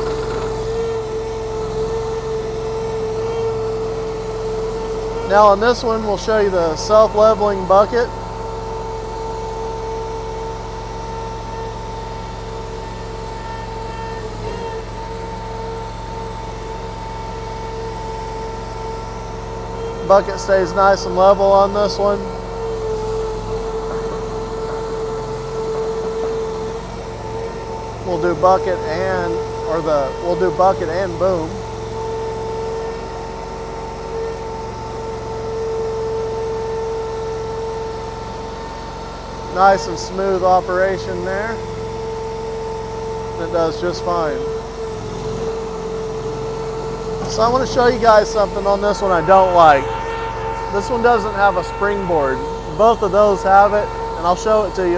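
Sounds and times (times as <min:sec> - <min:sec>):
engine hum: 0:00.0 - 0:54.9
hydraulic whine: 0:00.0 - 0:54.9.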